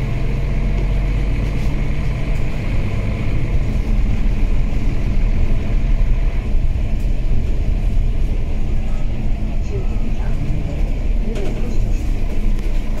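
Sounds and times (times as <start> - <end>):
bus engine rumble: 0.0 - 13.0
road noise: 0.0 - 13.0.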